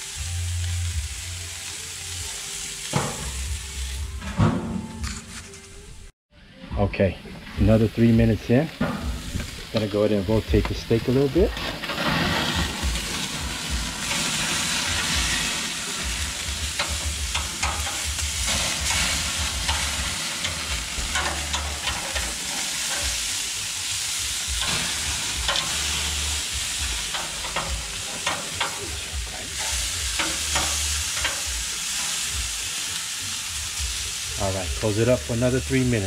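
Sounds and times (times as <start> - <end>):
steaks sizzling on a grill: 0.0 - 4.2, 7.6 - 36.0.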